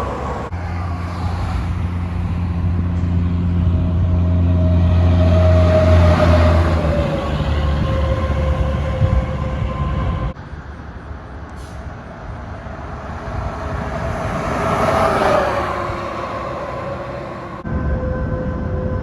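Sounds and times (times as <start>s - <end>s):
train passing: 0.0s - 18.1s.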